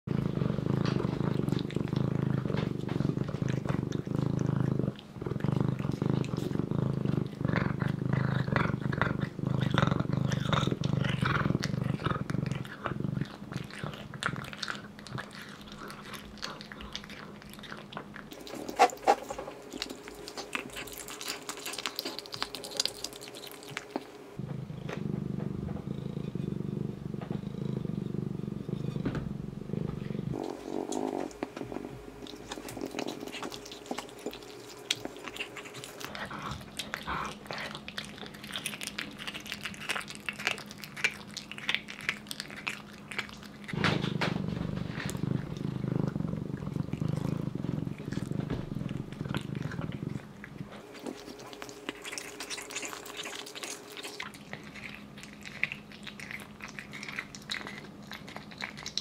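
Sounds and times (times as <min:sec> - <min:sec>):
cat purring: 0:00.0 - 0:59.0
cat chewing and biting: 0:00.1 - 0:29.1, 0:29.7 - 0:59.0.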